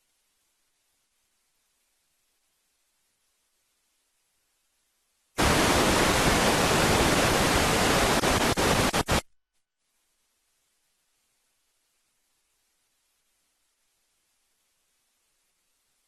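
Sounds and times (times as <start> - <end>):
loud static hiss: 0.0 - 16.0.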